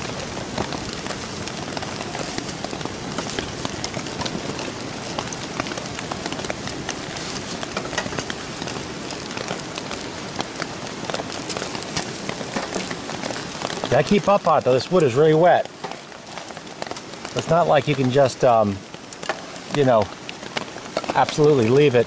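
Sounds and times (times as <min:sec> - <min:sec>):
rain pattering on a shelter: 0:00.0 - 0:22.0
wood crackling in a stove: 0:00.0 - 0:22.0.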